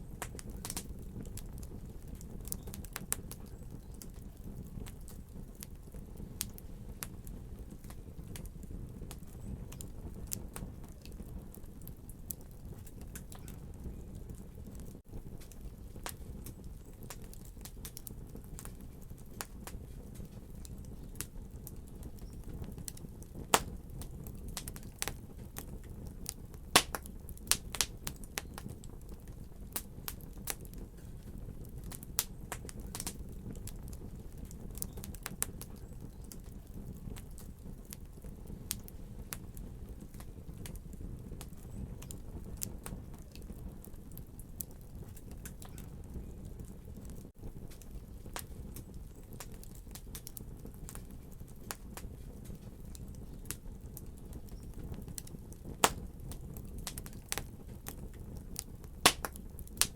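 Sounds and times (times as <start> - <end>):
flames rumbling: 0.0 - 59.9
wood fire crackling: 0.0 - 59.9.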